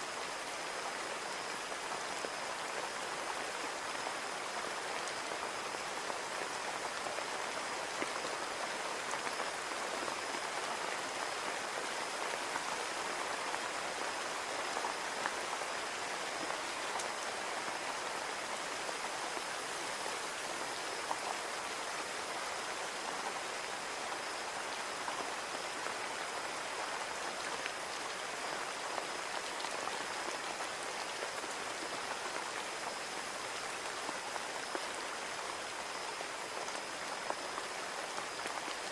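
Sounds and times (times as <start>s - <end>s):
rain on a window: 0.1s - 38.9s.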